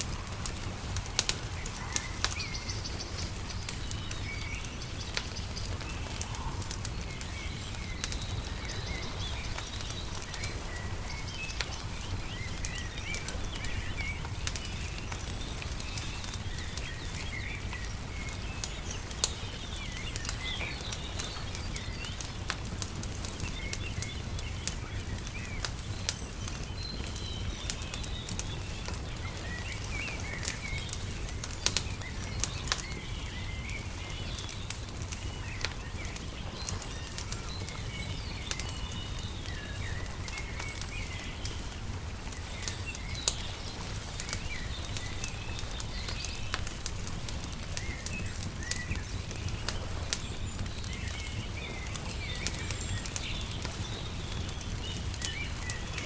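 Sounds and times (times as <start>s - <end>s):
small birds chirping: 0.0s - 56.0s
wood fire crackling and popping: 0.0s - 56.0s.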